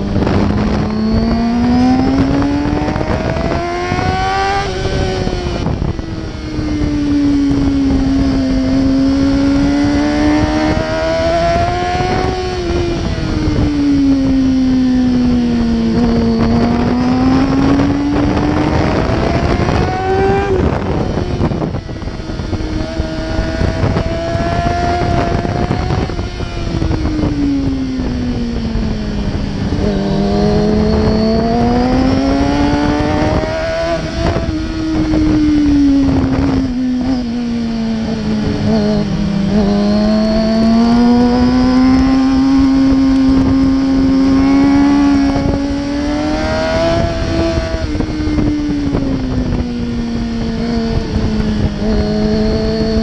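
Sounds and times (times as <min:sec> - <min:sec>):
motorcycle engine accelerating: 0:00.0 - 0:53.0
wind and road noise: 0:00.0 - 0:53.0.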